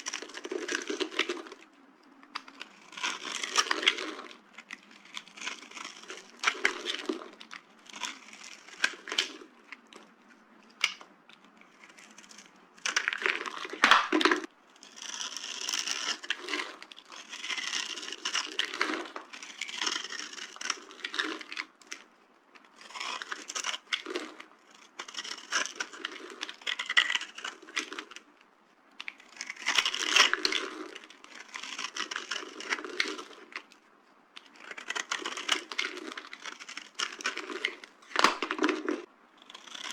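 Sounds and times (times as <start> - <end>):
dry soap crackling and crunching: 0.0 - 39.9.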